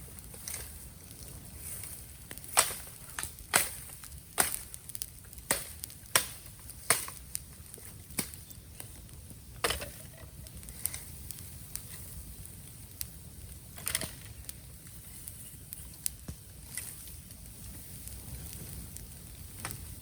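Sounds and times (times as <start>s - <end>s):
bamboo crackling and popping: 0.0s - 20.0s
low fire rumble: 0.0s - 20.0s.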